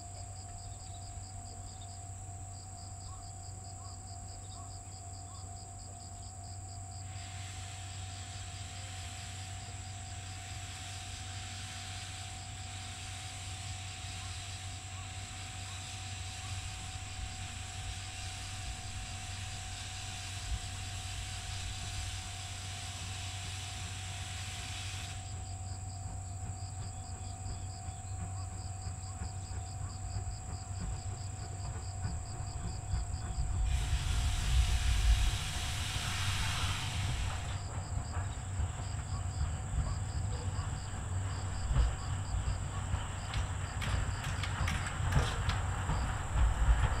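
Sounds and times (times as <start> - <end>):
steam locomotive hissing steam: 5.5 - 47.0
rush of steam: 6.8 - 47.0.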